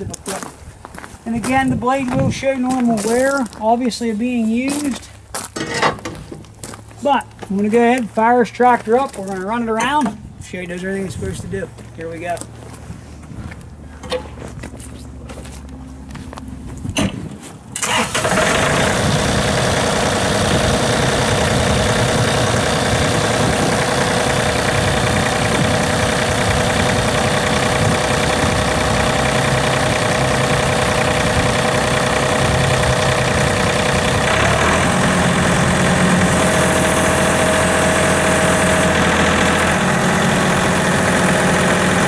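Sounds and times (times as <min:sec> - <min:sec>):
diesel tractor engine idling: 0:00.0 - 0:42.0.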